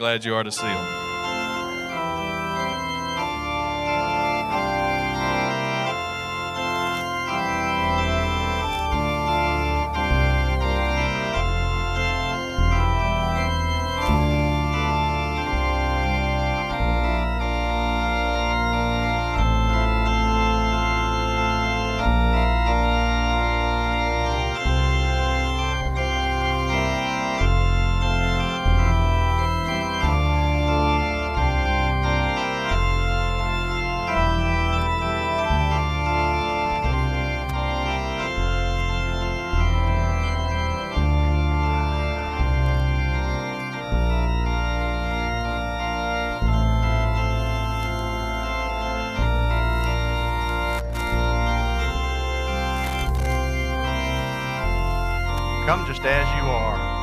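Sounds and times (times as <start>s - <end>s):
organ playing sustained chords: 0.0s - 57.0s.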